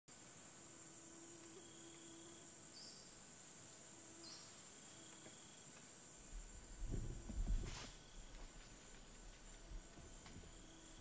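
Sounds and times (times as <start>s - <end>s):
insects droning: 0.1s - 11.0s.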